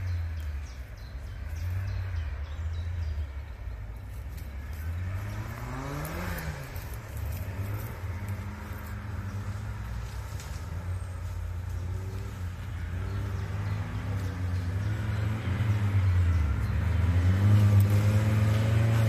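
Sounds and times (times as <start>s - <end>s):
engine rumbling and revving: 0.0s - 19.0s.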